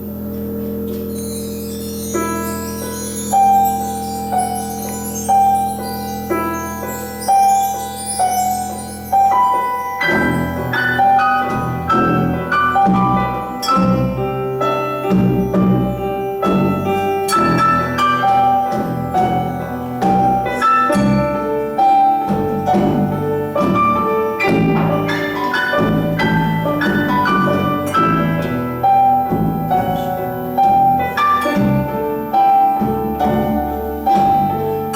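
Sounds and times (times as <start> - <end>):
low pulsing notes: 0.0 - 34.9
ringing melody notes: 0.0 - 34.9.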